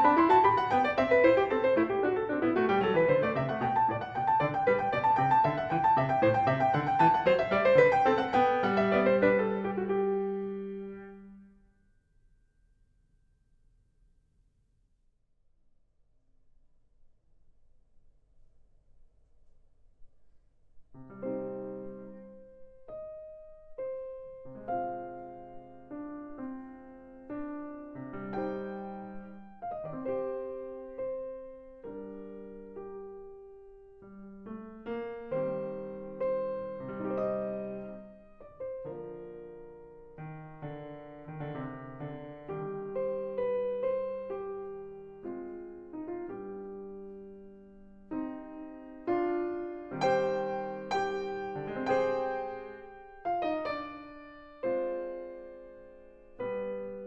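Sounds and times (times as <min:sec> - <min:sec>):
solo piano classical piece: 0:00.0 - 0:11.6, 0:20.8 - 0:57.0.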